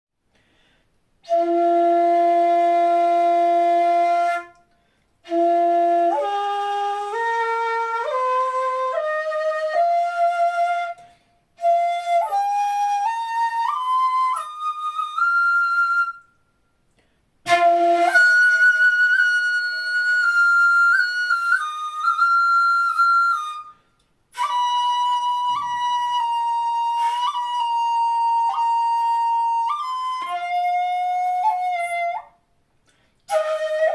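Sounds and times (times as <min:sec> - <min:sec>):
bamboo flute solo: 0:01.2 - 0:16.6, 0:17.4 - 0:32.5, 0:33.3 - 0:33.9.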